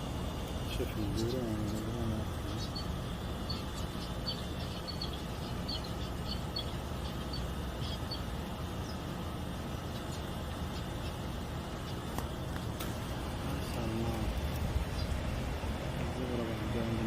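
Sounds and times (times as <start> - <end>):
finches chirping: 0.0 - 17.0
low traffic rumble: 0.0 - 17.0.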